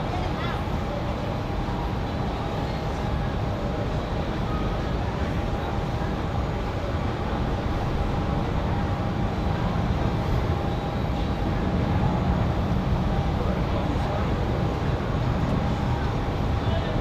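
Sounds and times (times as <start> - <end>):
faint engine whine: 0.0 - 17.0
jet engines rumbling: 0.0 - 17.0.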